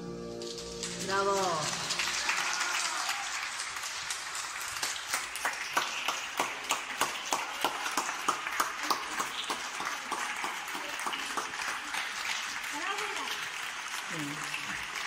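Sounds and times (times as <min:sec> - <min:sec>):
hands clapping close by: 0:00.8 - 0:15.0.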